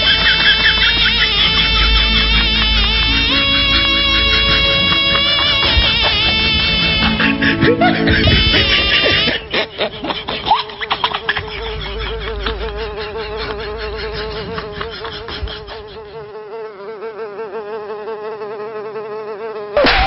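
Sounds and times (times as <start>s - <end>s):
insect buzzing: 0.0s - 20.0s.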